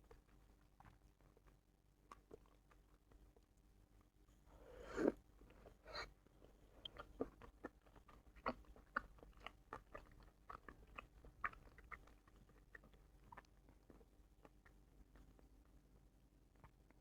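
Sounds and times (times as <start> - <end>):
close chewing mouth clicks: 0.0 - 3.5, 5.0 - 15.8.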